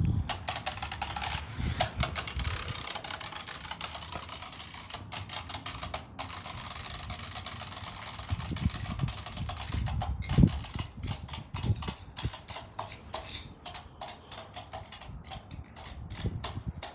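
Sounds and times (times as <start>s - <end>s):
spinning tops clattering: 0.3s - 16.9s.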